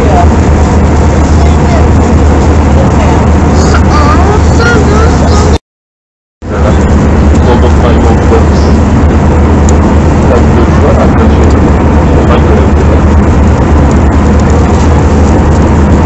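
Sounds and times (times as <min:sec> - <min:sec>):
airliner cabin engine rumble: 0:00.0 - 0:05.6, 0:06.4 - 0:16.0.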